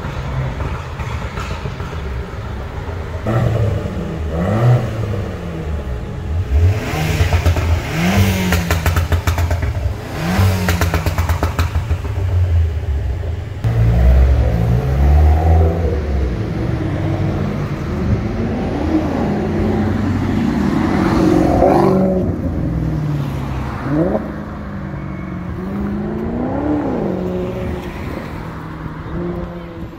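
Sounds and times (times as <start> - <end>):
sports car engines revving: 0.0 - 29.9.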